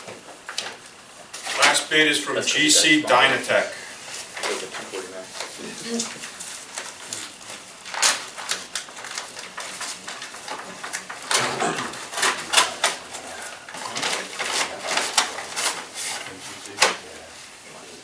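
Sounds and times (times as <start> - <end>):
paper crinkling and rustling: 3.1 - 17.8.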